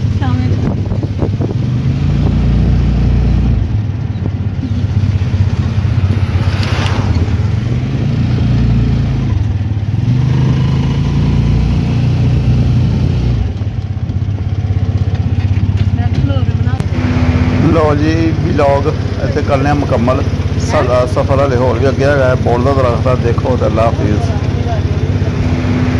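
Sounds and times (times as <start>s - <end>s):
road noise: 0.0s - 25.9s
vehicle engine running: 0.0s - 25.9s.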